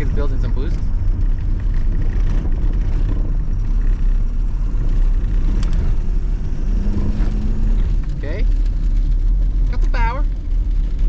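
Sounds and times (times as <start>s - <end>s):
diesel engine and road noise: 0.0s - 11.0s.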